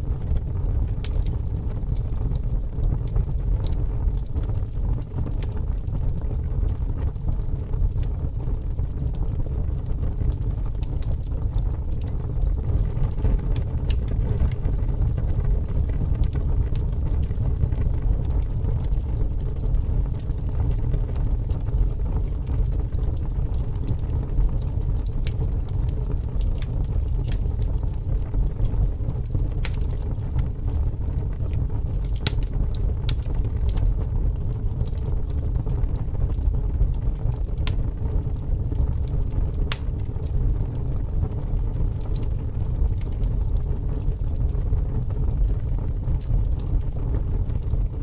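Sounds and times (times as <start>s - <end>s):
fire roaring and crackling: 0.0s - 48.0s.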